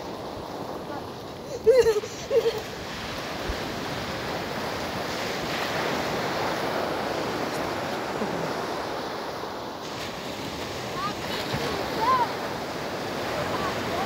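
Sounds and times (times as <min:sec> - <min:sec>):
small waves washing over sand: 0:00.0 - 0:14.0.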